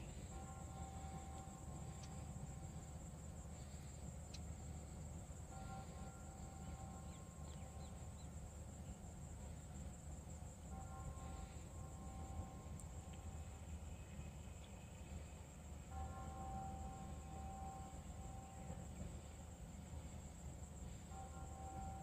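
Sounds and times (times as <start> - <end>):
crickets buzzing: 0.0 - 22.0.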